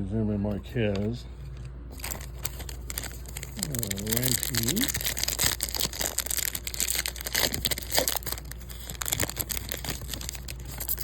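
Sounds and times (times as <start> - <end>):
foil wrapper crinkling: 1.9 - 11.0.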